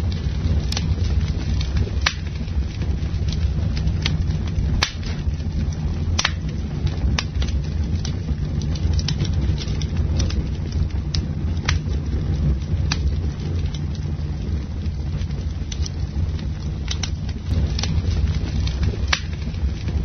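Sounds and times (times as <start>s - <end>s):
burning wood crackling and popping: 0.0s - 20.0s
campfire flame noise: 0.0s - 20.0s.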